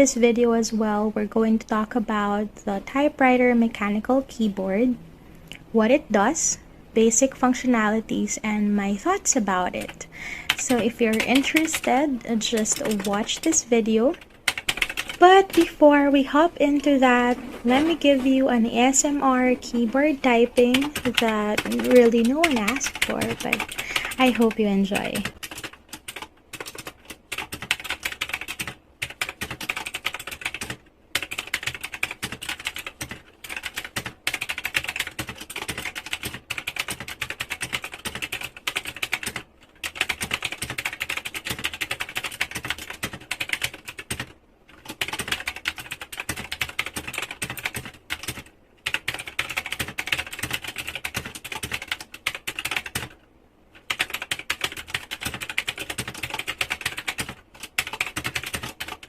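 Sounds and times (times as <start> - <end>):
mechanical keyboard typing: 8.9 - 53.2, 53.8 - 59.0.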